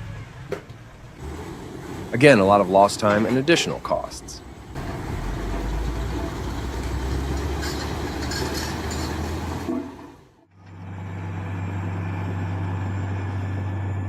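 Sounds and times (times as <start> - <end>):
heavy engine low hum: 0.0 - 14.0
heavy machinery engine running roughly: 1.0 - 14.0.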